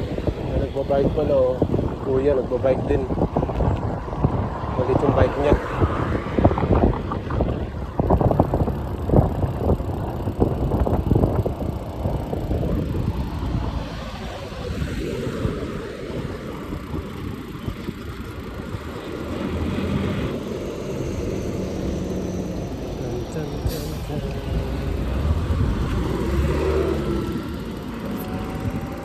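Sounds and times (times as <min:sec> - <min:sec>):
road noise: 0:00.0 - 0:29.0
wind buffeting microphone: 0:00.0 - 0:29.0.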